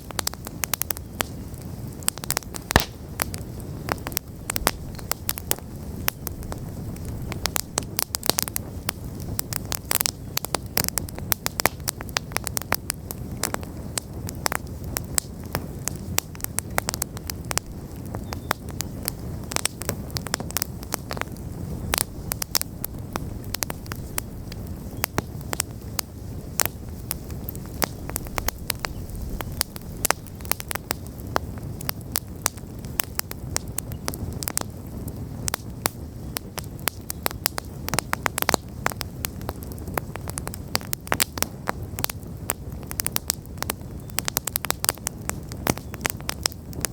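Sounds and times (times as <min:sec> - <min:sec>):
fire crackling and popping: 0:00.0 - 0:46.9
low rumble of flame: 0:00.0 - 0:46.9.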